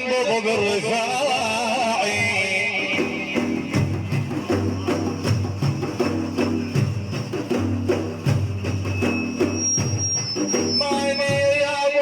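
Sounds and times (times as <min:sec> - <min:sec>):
percussion strikes: 0:02.1 - 0:12.0.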